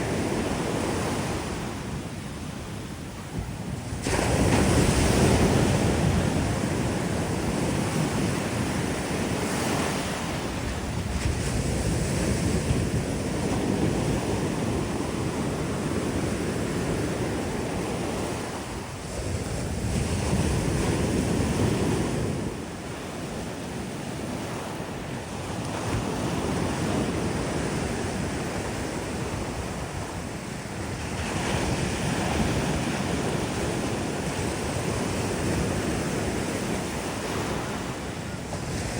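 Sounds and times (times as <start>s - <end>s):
surf breaking on beach: 0.0s - 38.9s
wind buffeting microphone: 0.0s - 38.9s.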